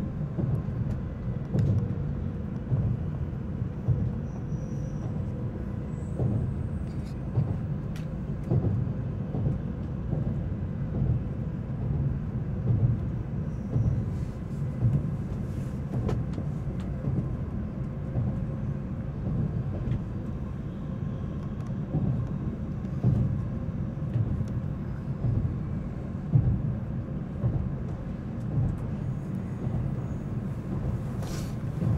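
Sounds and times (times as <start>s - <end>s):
train cabin rumble: 0.0s - 31.9s.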